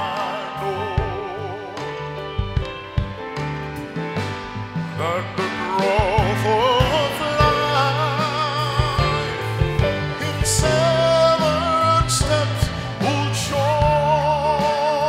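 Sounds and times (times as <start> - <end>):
man singing into a microphone: 0.0 - 2.5, 4.9 - 15.0
instrumental backing with bass: 0.0 - 15.0.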